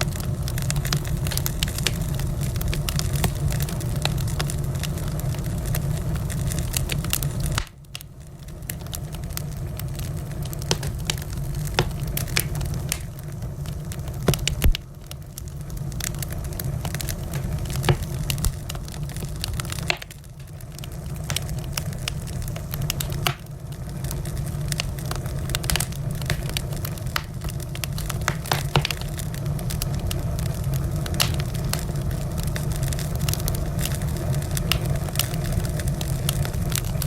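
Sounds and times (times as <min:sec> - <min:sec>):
low steady rumble: 0:00.0 - 0:37.0
wood fire crackling: 0:00.0 - 0:37.0.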